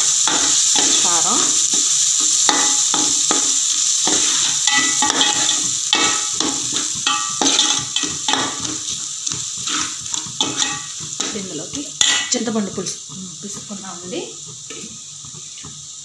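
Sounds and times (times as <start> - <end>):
masala sizzling in oil: 0.0 - 16.0.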